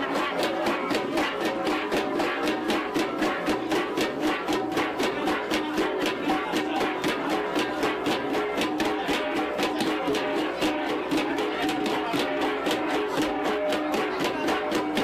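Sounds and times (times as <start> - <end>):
flat gongs interlocking beat: 0.0 - 15.0.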